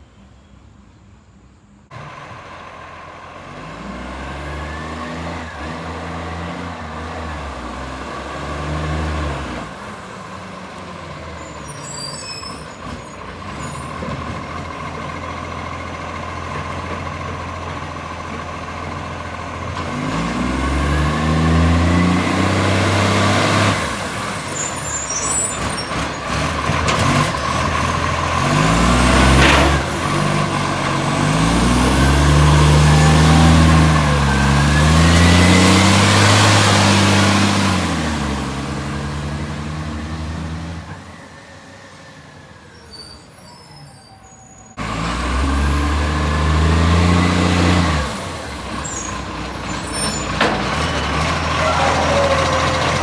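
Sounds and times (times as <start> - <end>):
diesel truck engine pulling away: 1.8 - 53.0.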